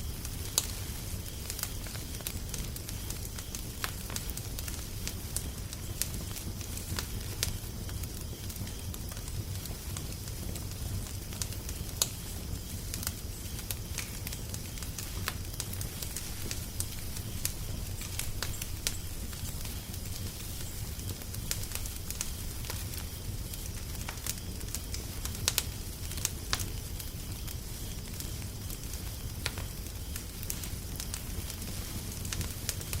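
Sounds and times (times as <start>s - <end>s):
fire popping and snapping: 0.0s - 33.0s
low fire rumble: 0.0s - 33.0s.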